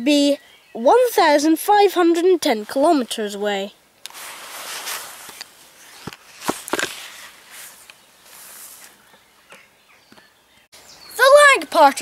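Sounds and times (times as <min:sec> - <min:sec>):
outdoor rustling: 0:00.0 - 0:12.0
wind: 0:00.0 - 0:12.0.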